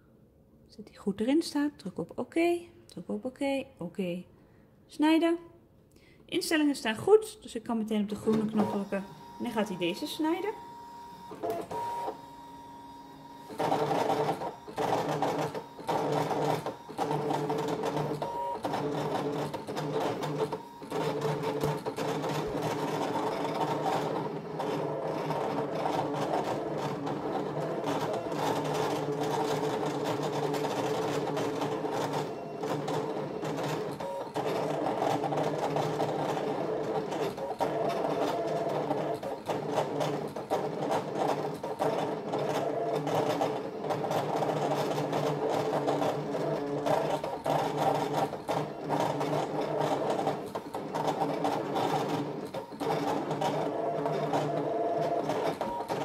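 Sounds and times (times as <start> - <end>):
cutting machine motors running: 8.4 - 56.0.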